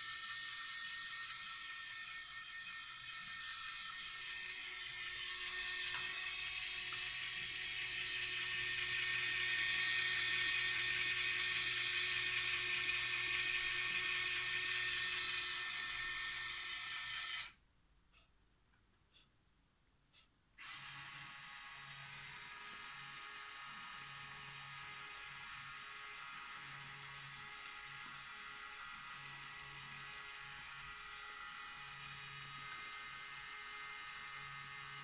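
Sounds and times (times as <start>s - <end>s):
small electric motors whirring: 0.0s - 17.6s, 20.6s - 35.0s.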